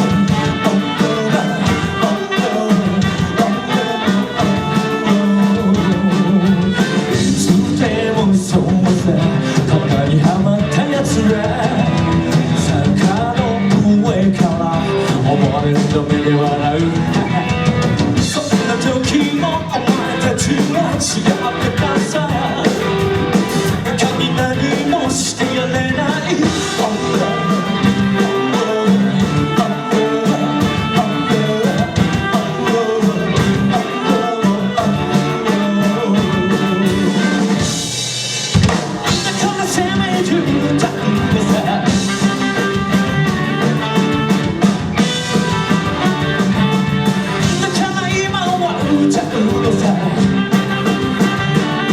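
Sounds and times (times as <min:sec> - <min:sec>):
lead singer singing: 0:00.0 - 0:38.0, 0:38.8 - 0:51.9
drum kit: 0:00.0 - 0:51.9
live rock band playing: 0:00.0 - 0:51.9.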